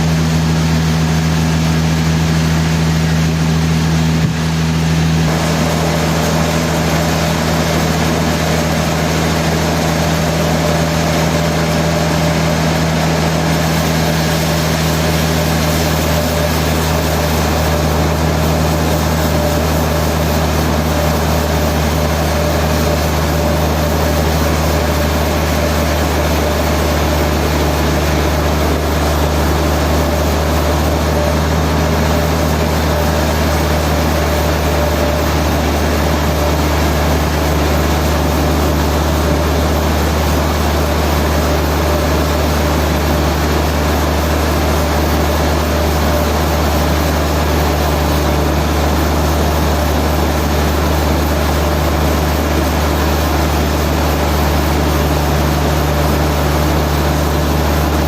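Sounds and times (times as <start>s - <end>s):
higher machinery hum: 0.0s - 58.0s
machinery low drone: 0.0s - 58.0s.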